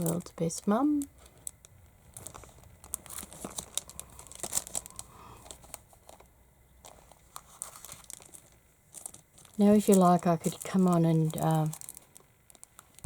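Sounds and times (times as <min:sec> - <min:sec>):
cellophane sleeves crinkling: 0:00.0 - 0:13.0.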